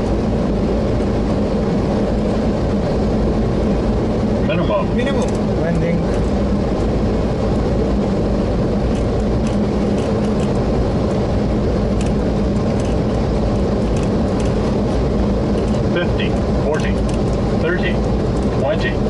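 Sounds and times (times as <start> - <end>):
rushing airflow and engines: 0.0 - 19.0.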